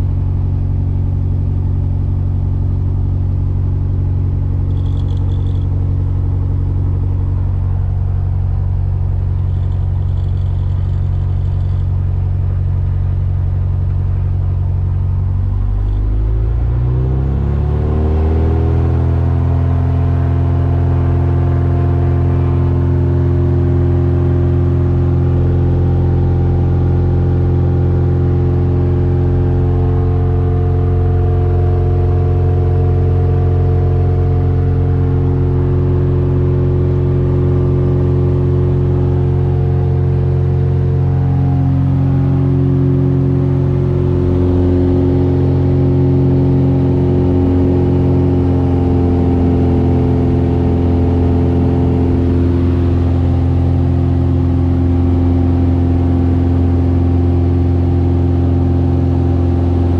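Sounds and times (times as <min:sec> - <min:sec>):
aircraft engine and propeller: 0:04.3 - 0:12.2, 0:15.6 - 0:59.9.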